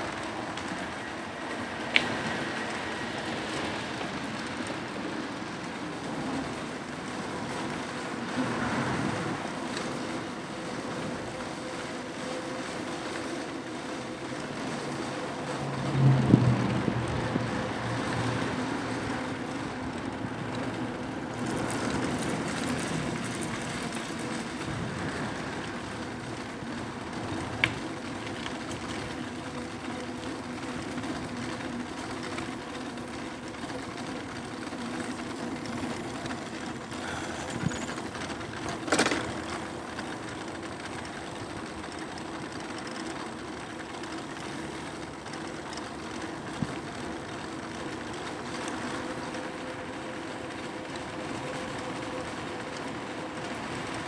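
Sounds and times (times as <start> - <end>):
bike rattling over bumps: 0.0 - 54.0
e-bike motor hum: 0.0 - 54.0
tyre and wind noise: 0.0 - 54.0.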